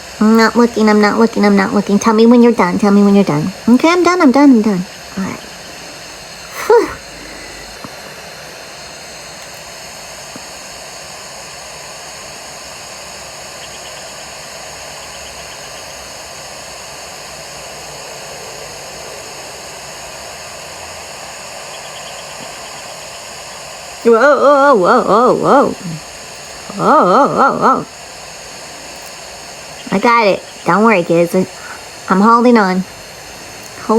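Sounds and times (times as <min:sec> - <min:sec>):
steady rushing hiss: 0:00.0 - 0:33.9.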